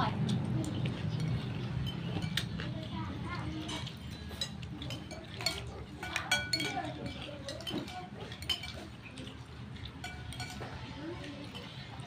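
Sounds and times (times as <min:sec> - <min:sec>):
metal spoon clinking in ceramic bowl: 0:00.7 - 0:12.0.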